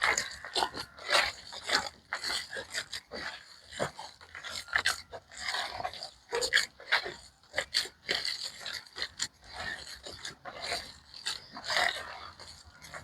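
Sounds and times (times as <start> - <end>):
hands squelching wet dough: 0.0 - 13.0.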